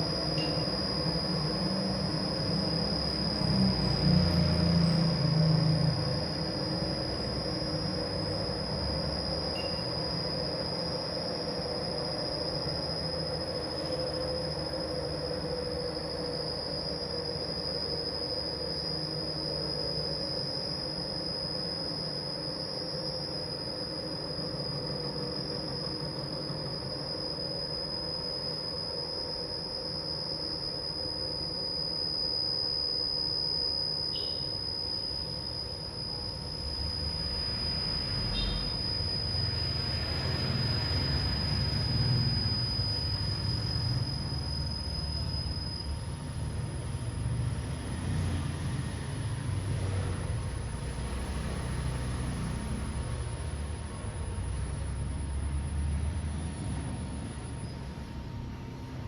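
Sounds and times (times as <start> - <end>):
carpet spinner drum whining: 0.0 - 59.0.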